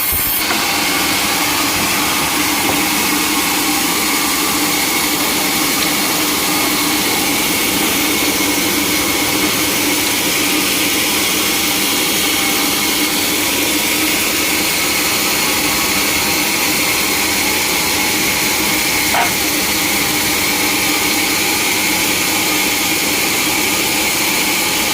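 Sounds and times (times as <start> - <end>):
sawmill machinery humming: 0.0 - 24.9.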